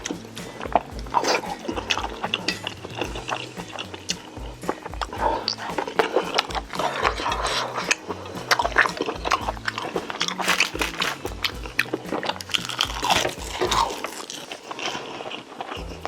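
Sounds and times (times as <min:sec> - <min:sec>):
background music with bass line: 0:00.0 - 0:14.4, 0:15.8 - 0:16.0
chewing and crunching food: 0:00.0 - 0:16.0.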